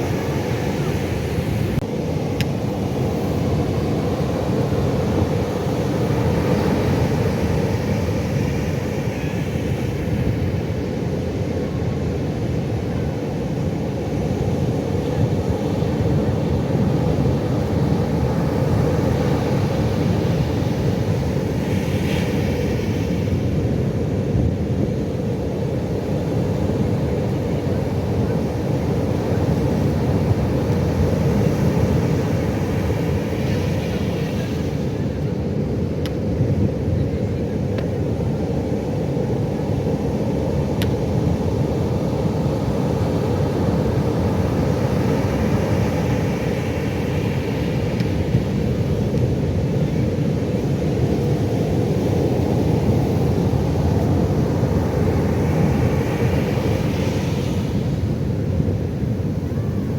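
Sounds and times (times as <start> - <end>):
surf roaring: 0.0 - 59.9.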